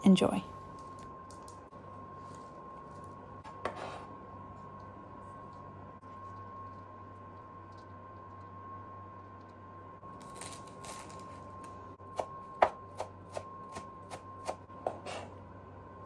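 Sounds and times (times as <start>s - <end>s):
oven whine and hum: 0.0s - 16.0s.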